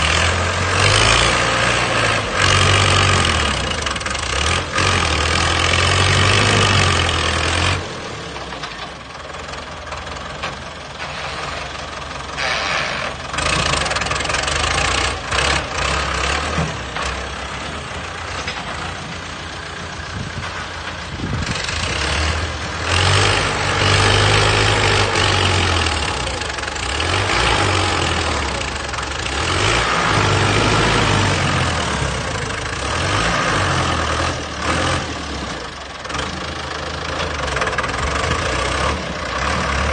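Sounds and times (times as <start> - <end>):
heavy diesel machines humming: 0.0 - 39.9.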